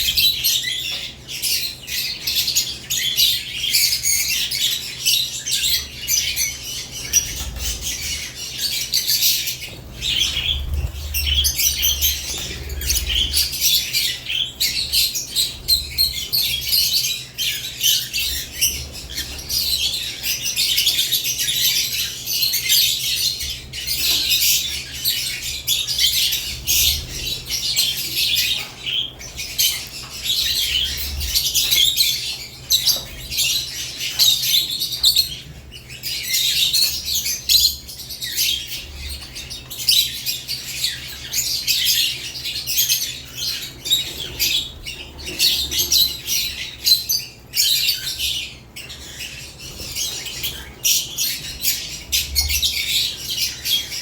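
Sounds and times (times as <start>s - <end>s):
lovebirds chattering and chirping: 0.0s - 54.0s.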